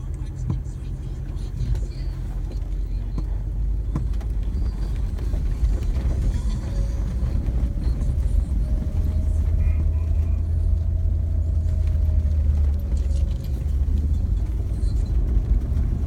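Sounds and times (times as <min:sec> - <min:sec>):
engine and tyre rumble: 0:00.0 - 0:16.0
faint whine: 0:00.0 - 0:16.0.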